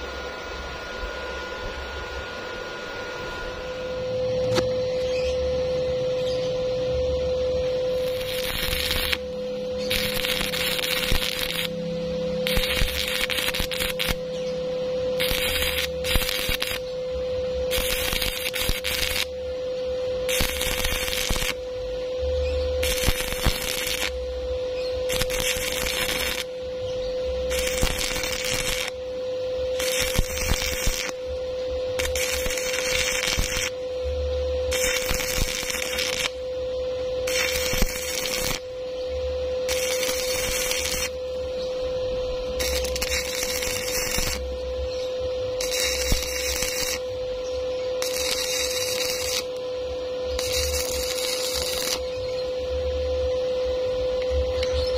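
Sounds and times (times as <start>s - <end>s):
steady hum: 0.0s - 54.9s
steady tone: 0.0s - 54.9s
welding arc crackling: 7.0s - 21.7s, 22.5s - 52.8s.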